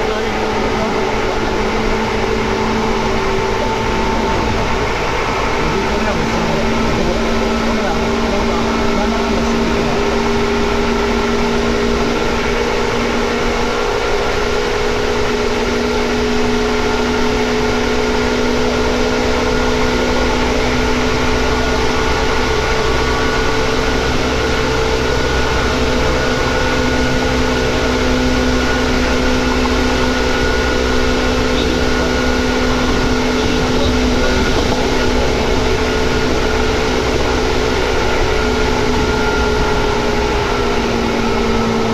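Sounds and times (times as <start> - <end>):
train motor whine rising in pitch: 0.0 - 41.9
wheels rumbling on rail: 0.0 - 41.9.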